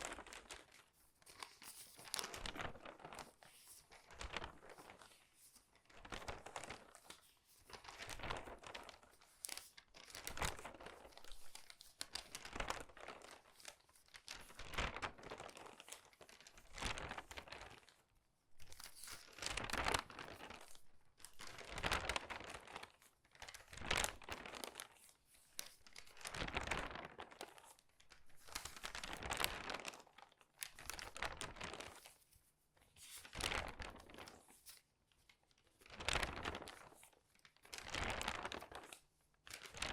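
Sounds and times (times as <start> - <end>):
newspaper pages crinkling: 0.0 - 39.9.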